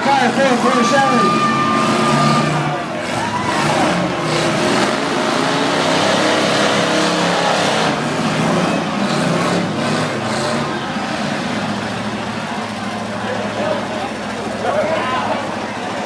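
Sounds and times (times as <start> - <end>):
car engines revving loudly: 0.0 - 16.0.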